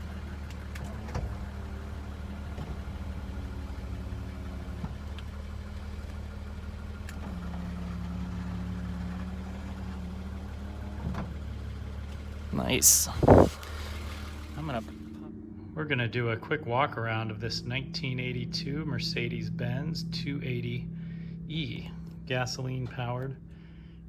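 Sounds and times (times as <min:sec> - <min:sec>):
faint engine ticks: 0:00.0 - 0:15.6, 0:17.9 - 0:24.0
car engine idling: 0:00.0 - 0:24.0.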